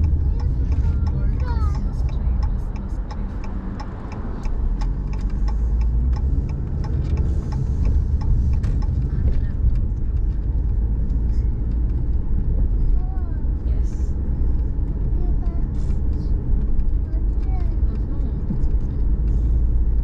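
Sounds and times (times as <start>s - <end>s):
road and engine rumble: 0.0s - 20.0s
turn signal ticking: 0.0s - 20.0s.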